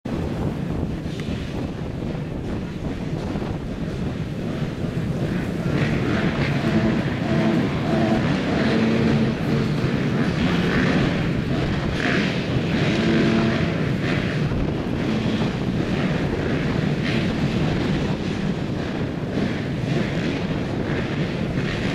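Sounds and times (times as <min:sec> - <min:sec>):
motocross engines revving: 0:03.9 - 0:21.9.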